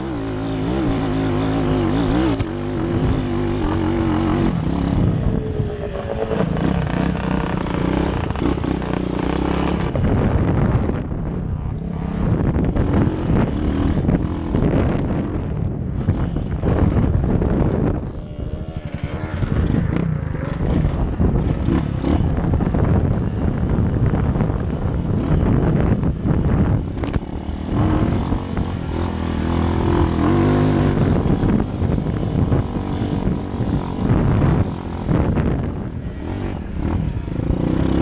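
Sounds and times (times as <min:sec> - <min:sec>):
dirt bike engine revving: 0:00.0 - 0:38.0
wind buffeting microphone: 0:00.0 - 0:38.0.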